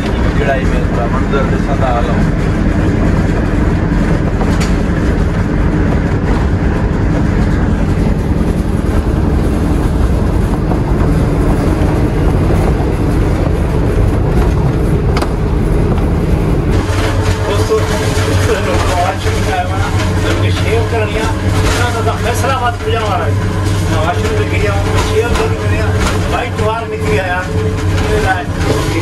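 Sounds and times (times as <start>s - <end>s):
train carriage rumble and rattle: 0.0s - 29.0s.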